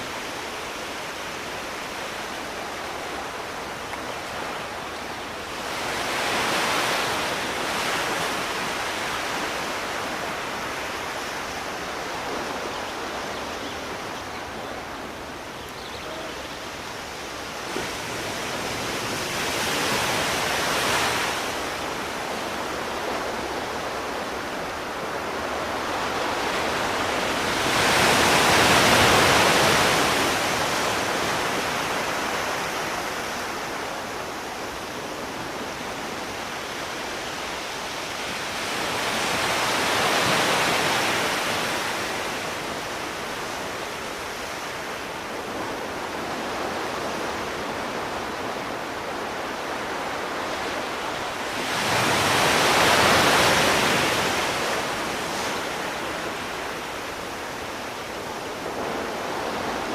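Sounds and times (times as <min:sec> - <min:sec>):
sea waves washing in: 0:00.0 - 0:59.9.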